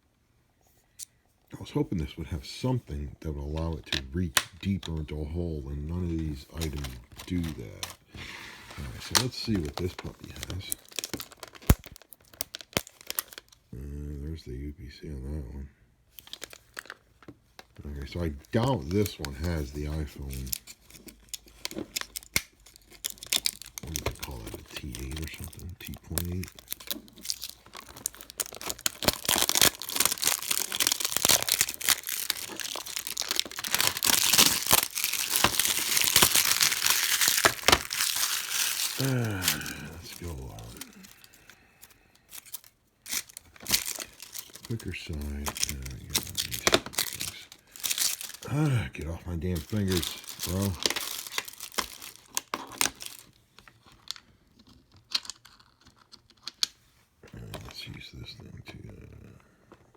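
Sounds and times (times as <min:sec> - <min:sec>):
plastic packaging crinkling and tearing: 0:02.7 - 0:13.9, 0:16.2 - 0:56.7.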